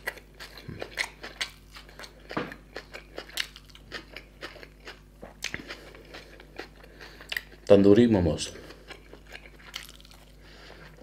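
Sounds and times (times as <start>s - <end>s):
chewing with wet crunches: 0.0s - 7.8s, 8.6s - 11.0s.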